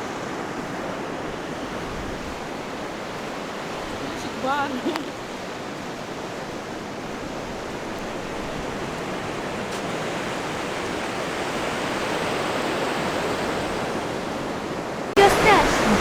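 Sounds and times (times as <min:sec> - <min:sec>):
sea surf washing on shore: 0:00.0 - 0:16.0.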